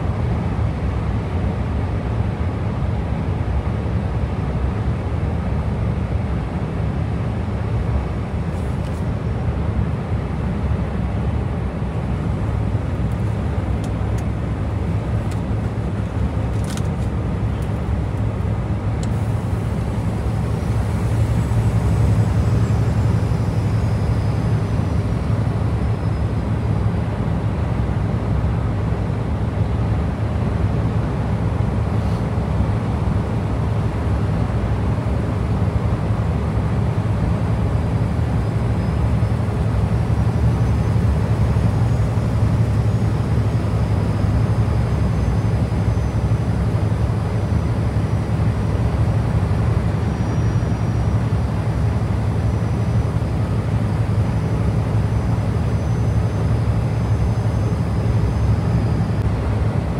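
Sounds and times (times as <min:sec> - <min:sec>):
truck engine and road noise: 0:00.0 - 0:59.9.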